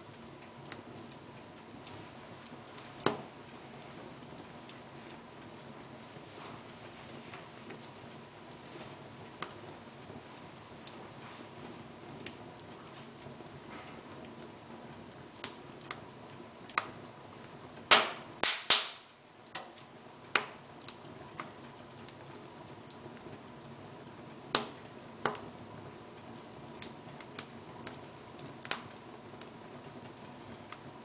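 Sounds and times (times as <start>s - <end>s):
fire crackles and pops: 0.0s - 31.0s
logs burning in a fireplace: 0.0s - 31.0s
low hiss of flames: 0.0s - 31.0s.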